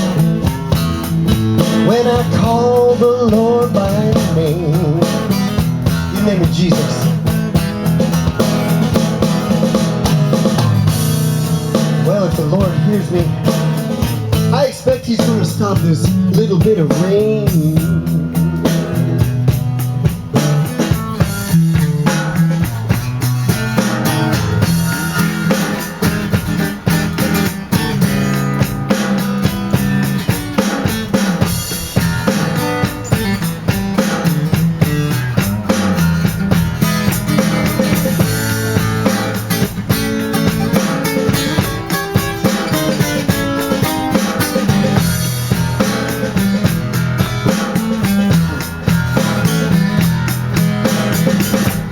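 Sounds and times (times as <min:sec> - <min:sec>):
low bass notes: 0:00.0 - 0:41.8, 0:44.6 - 0:51.9
drum kit groove: 0:00.0 - 0:51.9
guitar: 0:00.0 - 0:51.9.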